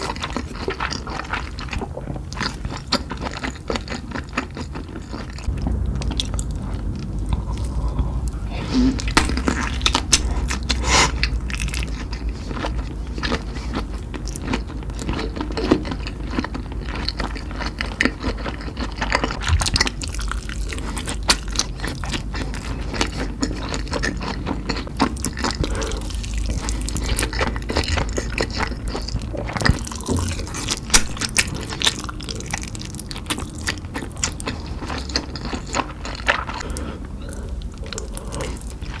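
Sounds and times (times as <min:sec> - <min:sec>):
chewing and biting food: 0:00.0 - 0:06.2, 0:06.9 - 0:39.0
low steady hum: 0:00.0 - 0:39.0.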